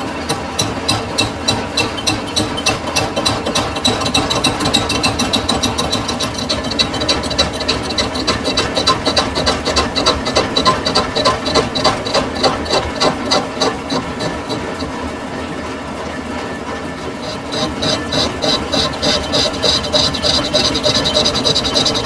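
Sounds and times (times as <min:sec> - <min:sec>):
lathe hum: 0:00.0 - 0:22.0.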